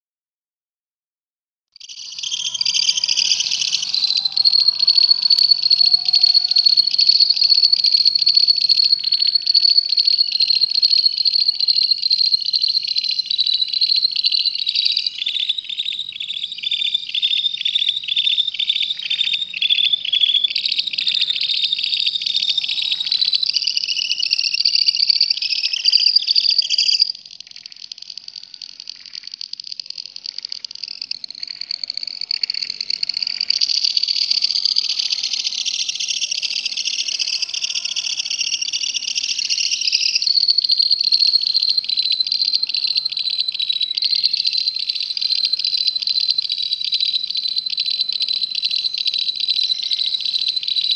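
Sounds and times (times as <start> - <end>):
lovebird trilling chatter: 1.8 - 50.9.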